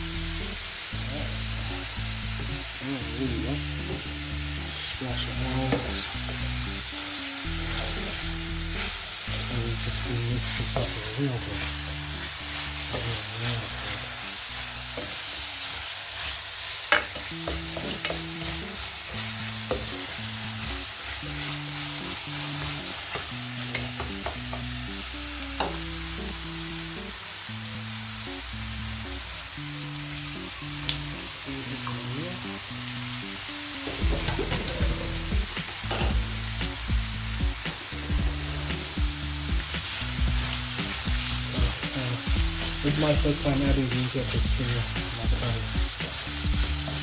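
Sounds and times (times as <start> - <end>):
background music with beat: 0.0 - 15.3, 17.2 - 47.0
vegetables sizzling in hot oil: 0.0 - 47.0.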